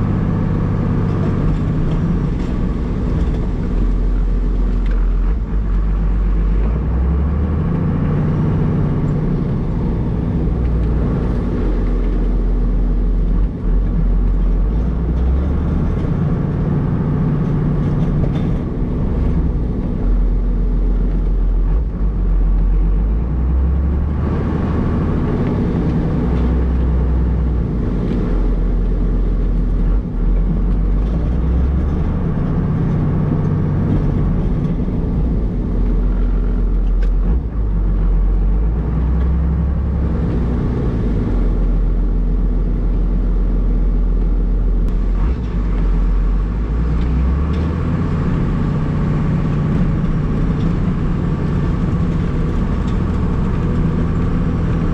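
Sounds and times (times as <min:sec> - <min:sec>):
diesel truck engine drone: 0:00.0 - 0:54.9.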